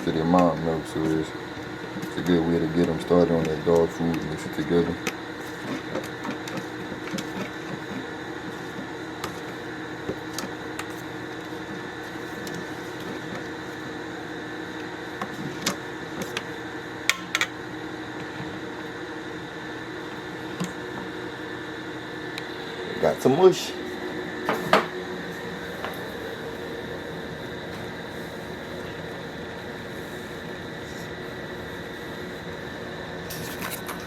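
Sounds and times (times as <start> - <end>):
appliance mechanical hum: 0.0 - 34.0.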